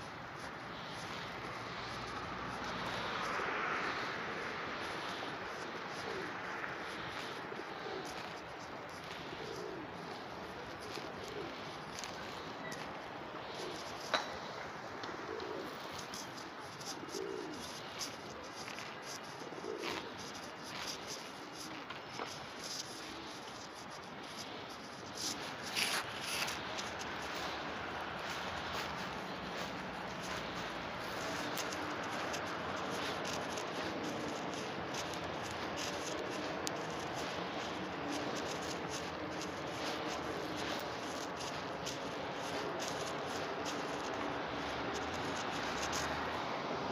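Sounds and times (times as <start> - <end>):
pigeons cooing: 0.0 - 46.9
steady outdoor hiss: 0.0 - 46.9.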